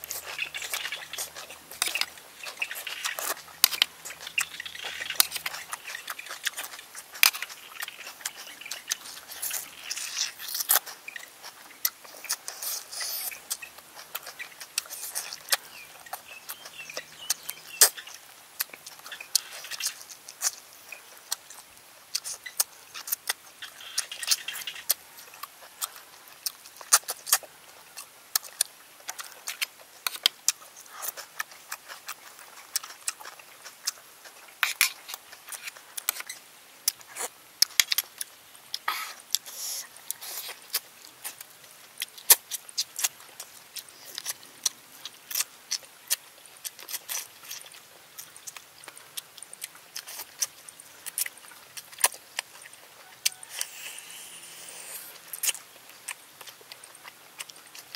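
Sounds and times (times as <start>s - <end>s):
person chewing and sucking: 0.0s - 57.9s.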